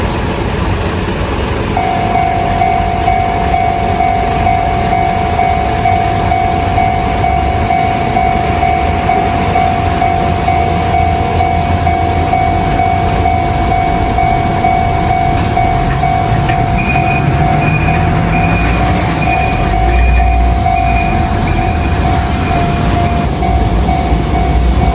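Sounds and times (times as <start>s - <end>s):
level crossing warning bell: 1.6s - 24.9s
low rumble: 1.8s - 24.9s.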